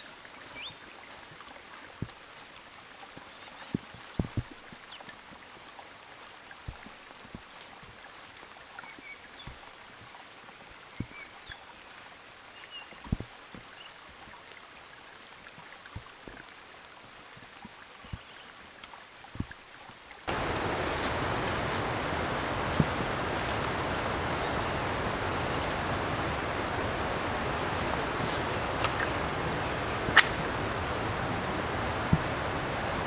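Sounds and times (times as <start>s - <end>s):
rain falling in woodland: 0.0s - 33.0s
raindrops landing close by: 0.0s - 33.0s.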